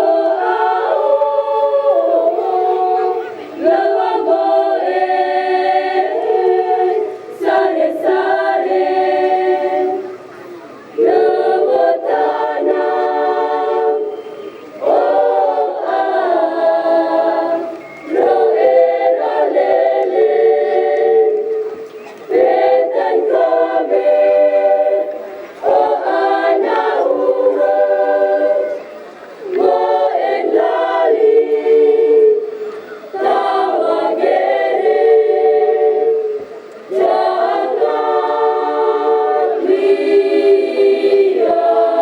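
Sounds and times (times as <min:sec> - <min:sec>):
choir singing: 0:00.0 - 0:10.3, 0:10.9 - 0:42.0.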